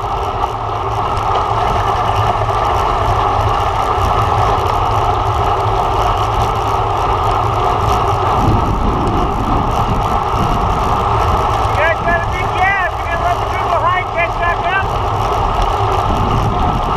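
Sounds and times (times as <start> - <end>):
wind rush on microphone: 0.0 - 16.9.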